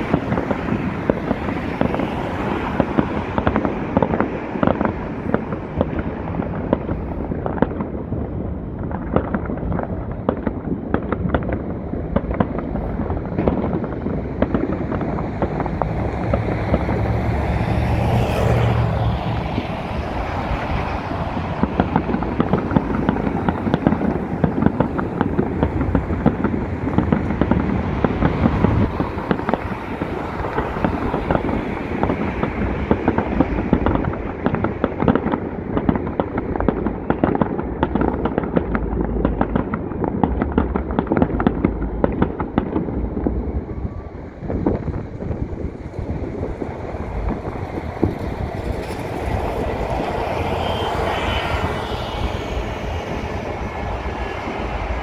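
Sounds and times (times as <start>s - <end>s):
deep rumbling booms: 0.0s - 55.0s
fireworks bangs and crackles: 0.0s - 55.0s.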